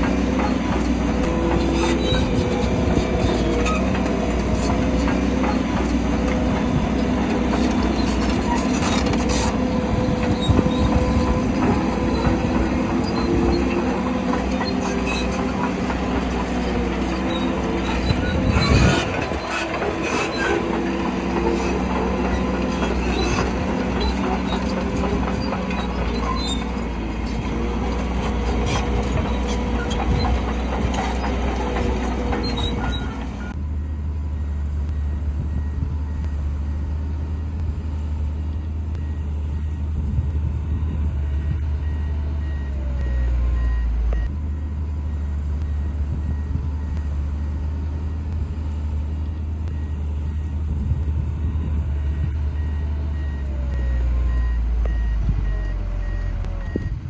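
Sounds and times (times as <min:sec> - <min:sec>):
deep engine drone: 0:00.0 - 0:57.0
heavy diesel engine running: 0:00.0 - 0:57.0.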